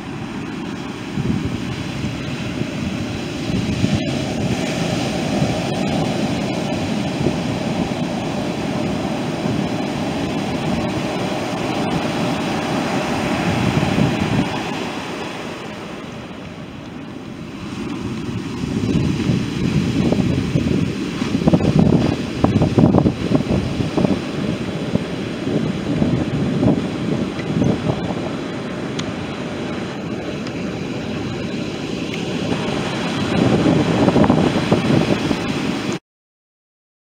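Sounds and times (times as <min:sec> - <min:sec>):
ocean surf breaking on beach: 0:00.0 - 0:36.0
wind buffeting microphone: 0:00.0 - 0:36.0.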